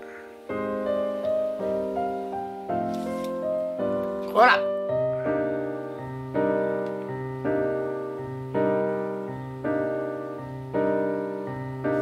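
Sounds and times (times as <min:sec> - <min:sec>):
piano playing slow chords: 0:00.0 - 0:12.0.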